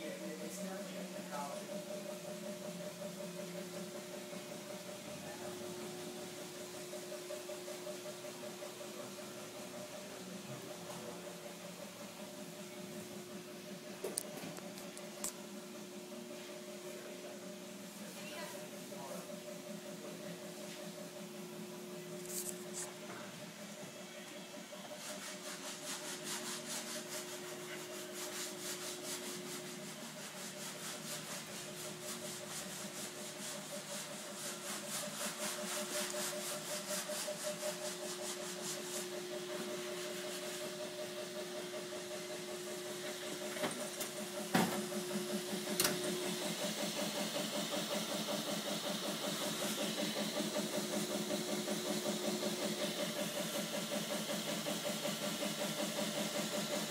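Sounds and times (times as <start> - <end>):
machine pulsing and humming: 0.0 - 56.9.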